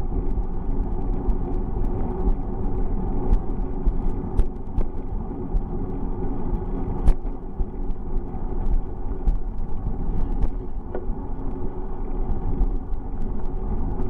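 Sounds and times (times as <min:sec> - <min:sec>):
bicycle road rumble: 0:00.0 - 0:14.0.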